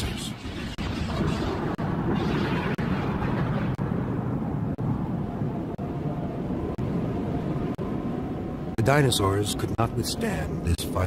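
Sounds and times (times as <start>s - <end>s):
steady low rumbling: 0.0s - 11.0s.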